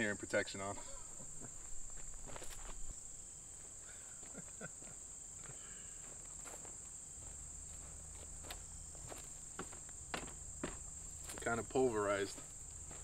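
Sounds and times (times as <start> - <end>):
high-pitched insect chorus: 0.0 - 13.0
footsteps through grass: 1.3 - 5.0, 6.0 - 13.0.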